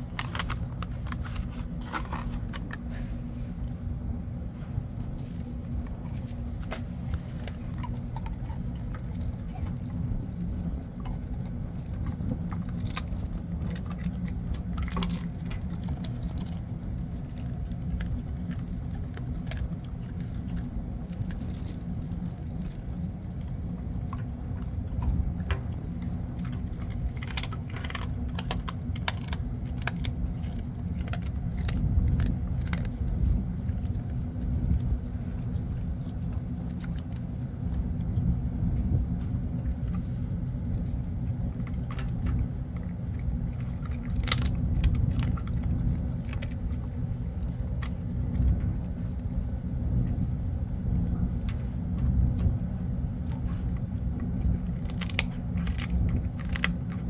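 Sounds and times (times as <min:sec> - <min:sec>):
dog chewing and licking: 0:00.0 - 0:57.0
ship engine drone: 0:00.0 - 0:57.0.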